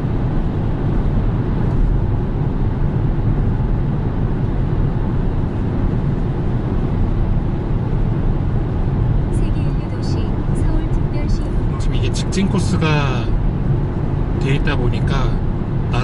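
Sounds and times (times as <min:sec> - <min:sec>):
car engine drone: 0:00.0 - 0:16.0
road and tyre noise: 0:00.0 - 0:16.0.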